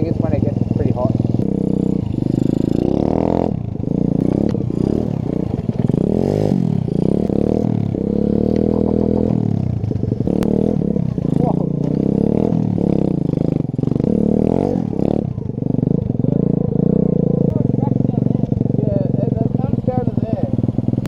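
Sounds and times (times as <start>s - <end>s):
pit bike engine revving: 0.0s - 21.0s.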